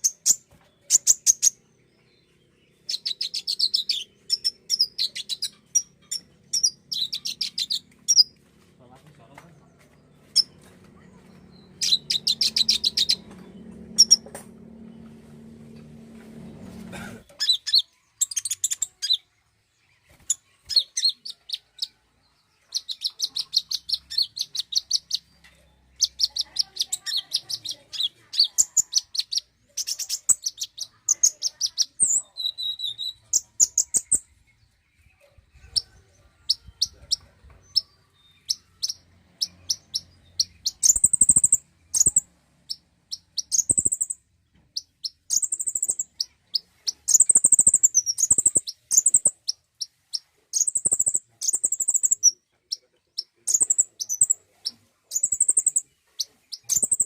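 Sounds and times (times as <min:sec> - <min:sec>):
bird chirps and trills: 0:00.0 - 0:08.6, 0:09.7 - 0:57.0.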